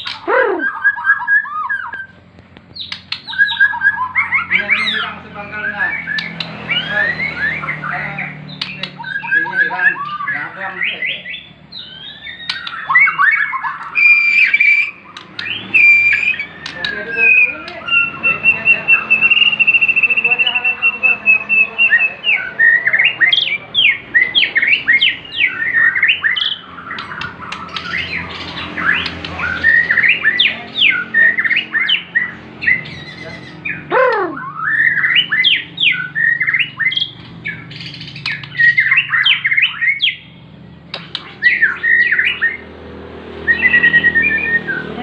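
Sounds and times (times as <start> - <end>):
bird singing whistled notes: 0.0 - 42.7, 43.4 - 45.0.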